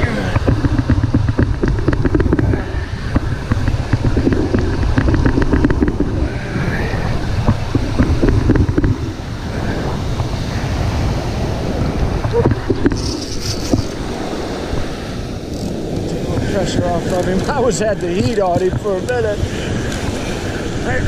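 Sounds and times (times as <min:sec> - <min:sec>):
surf breaking: 0:00.0 - 0:21.0
wind buffeting microphone: 0:00.0 - 0:21.0.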